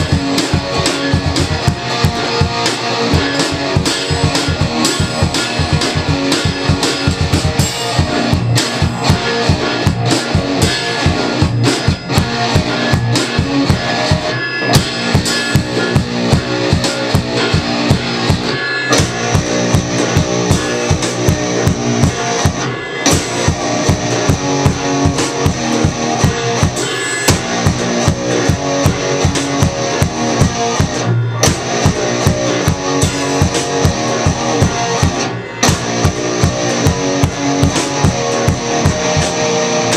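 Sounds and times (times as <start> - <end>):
electric guitar: 0.0 - 39.9
steady rock drum beat: 0.0 - 39.9.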